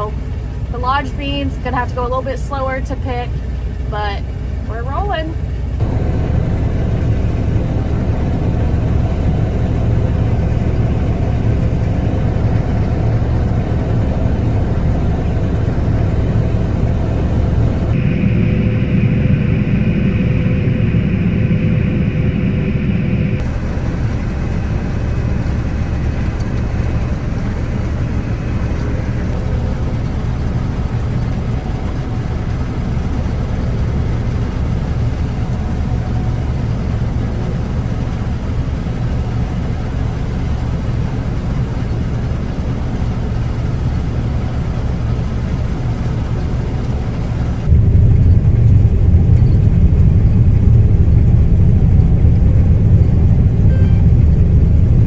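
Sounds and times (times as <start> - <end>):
combine harvester engine drone: 0.0 - 55.0
deep rumble: 0.0 - 55.0.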